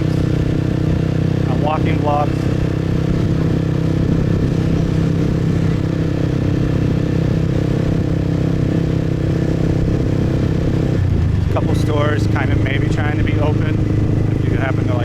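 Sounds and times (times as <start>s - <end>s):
motorbike engine cruising: 0.0s - 15.0s.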